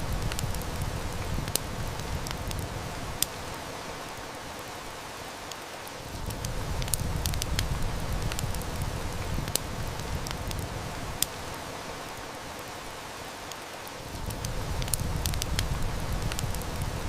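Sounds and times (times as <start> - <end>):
heavy rain hissing: 0.0 - 17.0
wood fire crackling: 0.0 - 17.0.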